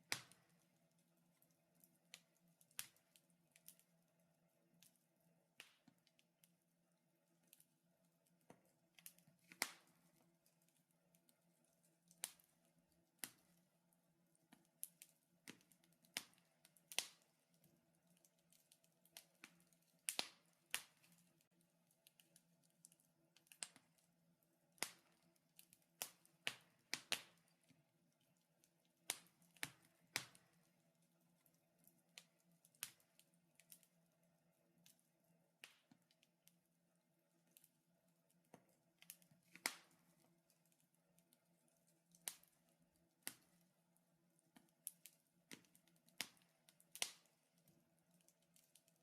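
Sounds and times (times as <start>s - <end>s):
wood fire crackling: 0.0s - 6.6s, 7.2s - 49.0s.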